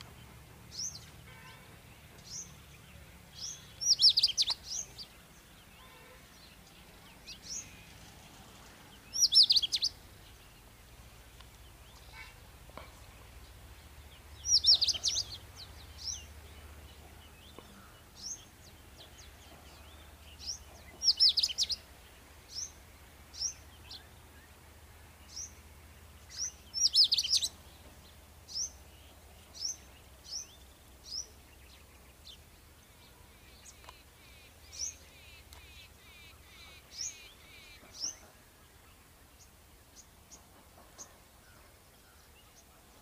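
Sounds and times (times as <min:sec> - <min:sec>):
birds chirping rapidly: 0:00.0 - 0:43.0.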